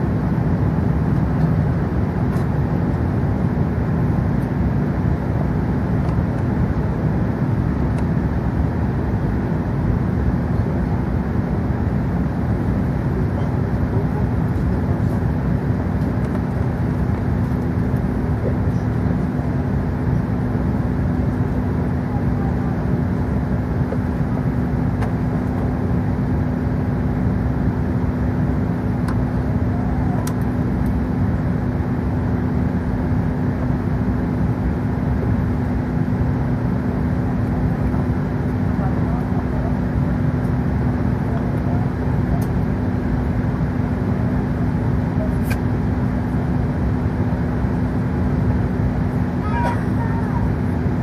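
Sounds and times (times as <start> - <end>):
aircraft engine low rumble: 0.0 - 51.0
constant cabin hum: 0.0 - 51.0.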